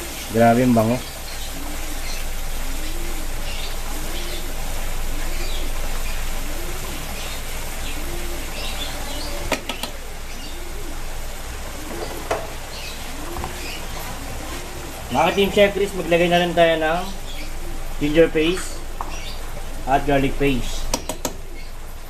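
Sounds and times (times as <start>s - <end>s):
sauce sizzling in frying pan: 0.0s - 22.0s.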